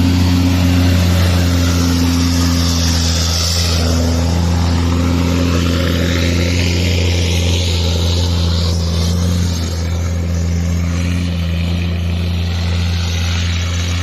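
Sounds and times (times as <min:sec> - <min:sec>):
truck diesel engine under load: 0:00.0 - 0:14.0.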